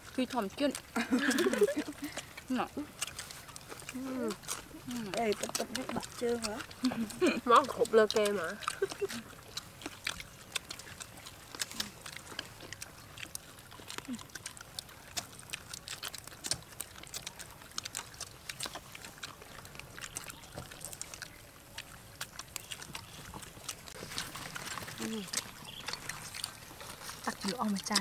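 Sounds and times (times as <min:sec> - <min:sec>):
lip smacking: 0:00.0 - 0:28.0
people chewing: 0:00.0 - 0:28.0
small crunches: 0:00.0 - 0:28.0.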